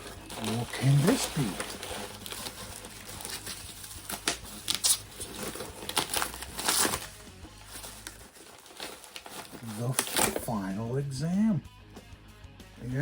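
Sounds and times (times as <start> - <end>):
plastic packaging crinkling and tearing: 0.0 - 10.6.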